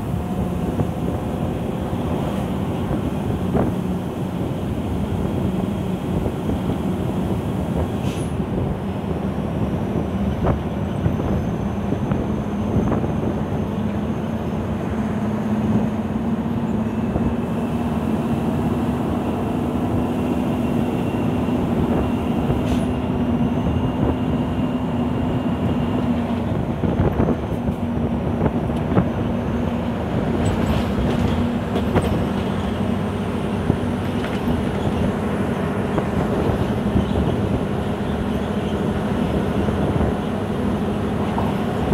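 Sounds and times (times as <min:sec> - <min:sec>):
diesel truck engine drone: 0:00.0 - 0:41.9.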